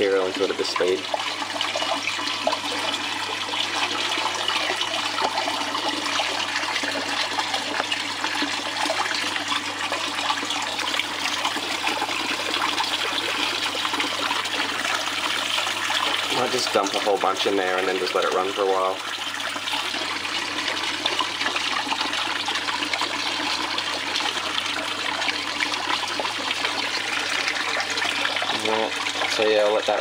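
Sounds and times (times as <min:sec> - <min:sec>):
water running over mat: 0:00.0 - 0:30.0.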